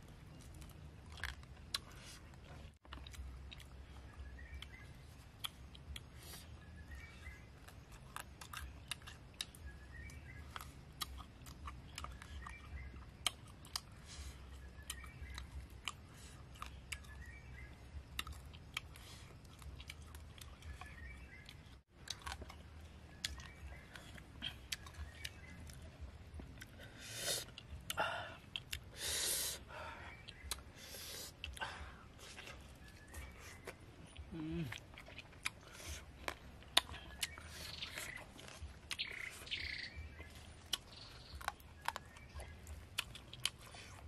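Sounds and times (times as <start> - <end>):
person chewing and crunching: 0.0 - 29.6, 30.2 - 44.0.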